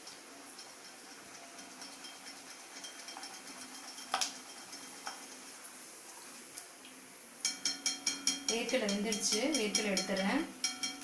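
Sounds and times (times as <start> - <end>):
peanuts sizzling in hot oil: 0.0 - 11.0.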